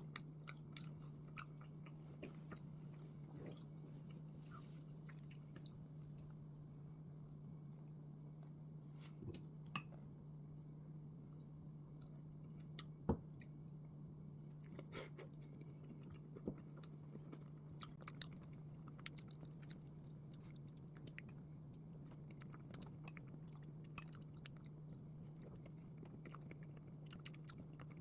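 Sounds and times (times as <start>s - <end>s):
chewing soft bread: 0.0s - 28.0s.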